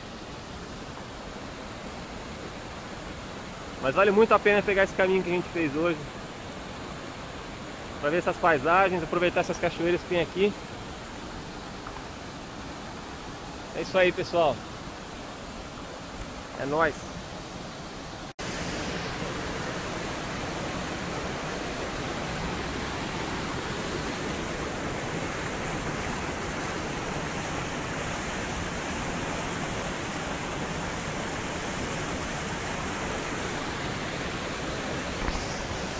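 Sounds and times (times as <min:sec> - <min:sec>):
waterfall rushing over boulders: 0:00.0 - 0:35.9.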